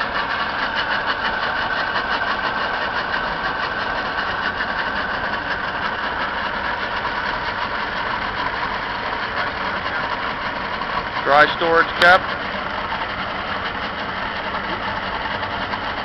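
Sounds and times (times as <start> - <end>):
outboard motors idling: 0.0 - 16.0.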